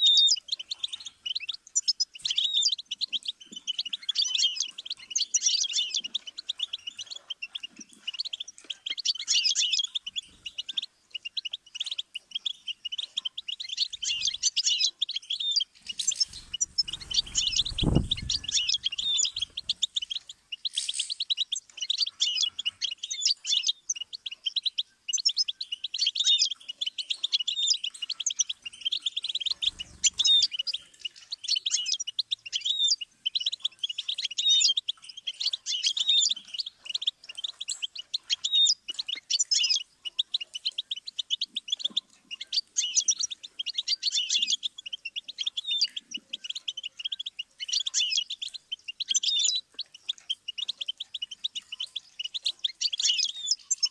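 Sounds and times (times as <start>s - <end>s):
finch twittering song: 0.0s - 53.9s.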